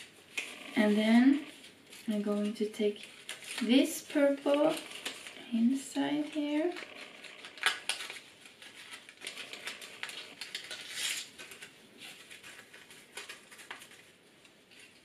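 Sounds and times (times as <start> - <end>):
paper rustling and crackling: 0.0 - 15.0.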